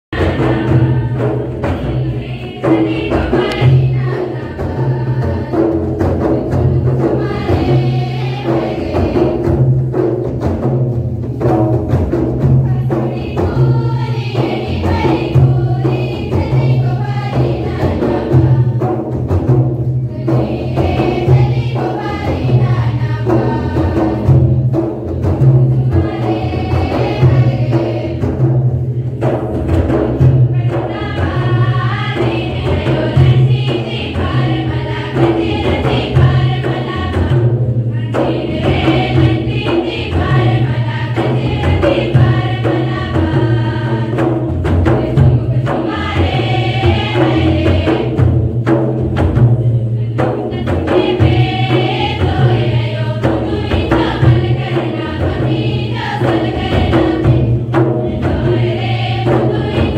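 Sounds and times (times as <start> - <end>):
group of voices singing: 0.2 - 10.3, 12.3 - 59.9
hand drum beating: 0.2 - 59.9.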